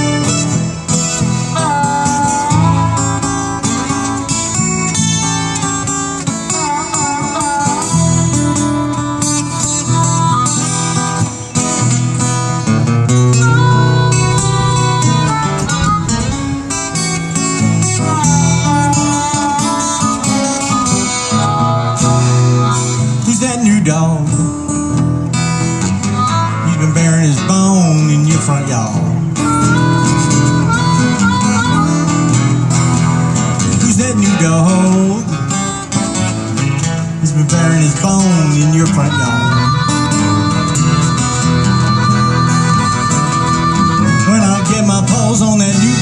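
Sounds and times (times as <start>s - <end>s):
acoustic guitars strumming: 0.0s - 46.0s
harmonica melody: 0.0s - 46.0s.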